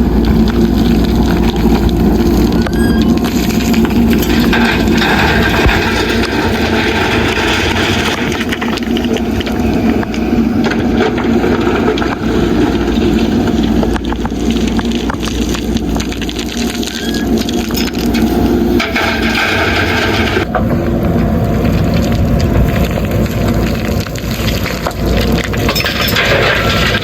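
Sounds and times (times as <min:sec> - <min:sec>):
diesel engine running: 0:00.0 - 0:27.0
gravel and bucket rattling: 0:00.0 - 0:27.0.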